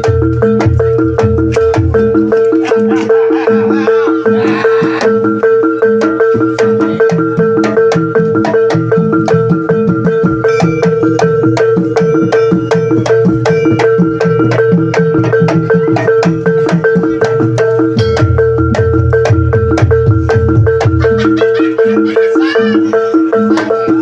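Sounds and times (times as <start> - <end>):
drum strokes: 0.0 - 24.0
heavy low drum: 0.0 - 24.0
steady held tone: 0.0 - 24.0
tuned metal percussion: 0.0 - 24.0.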